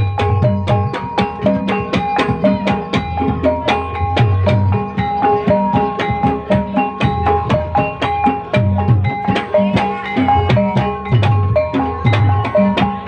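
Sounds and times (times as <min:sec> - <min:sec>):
hand drum beat: 0:00.0 - 0:13.0.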